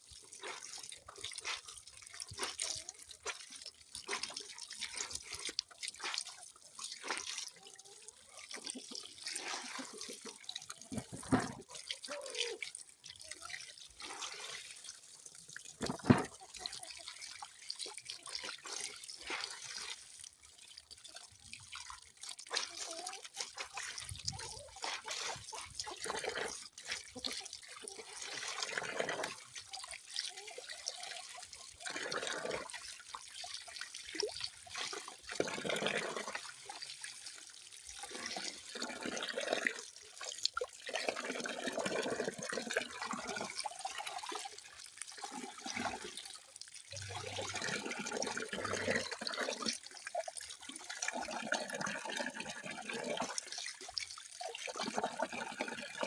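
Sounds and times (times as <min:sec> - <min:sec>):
water dripping and splashing: 0:00.0 - 0:56.0.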